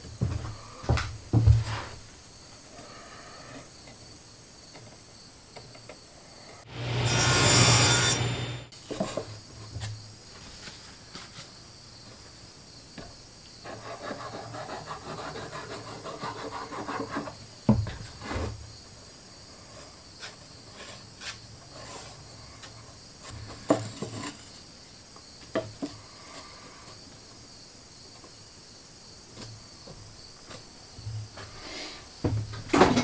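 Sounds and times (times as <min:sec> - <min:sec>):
crickets chirring: 0:00.0 - 0:33.0.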